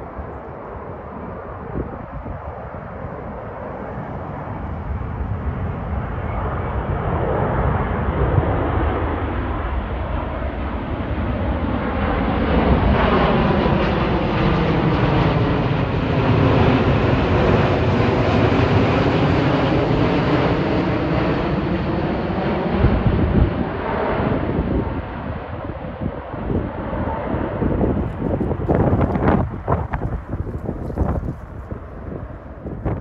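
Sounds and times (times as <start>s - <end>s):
jet airliner engine rumble: 0.0s - 33.0s.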